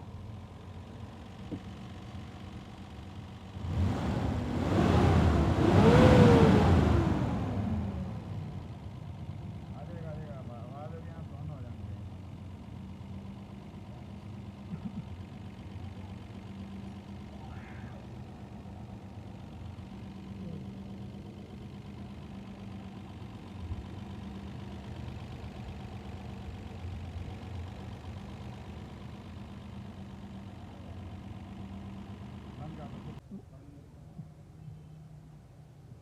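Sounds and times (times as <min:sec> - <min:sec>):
engine idling: 0:00.0 - 0:35.6.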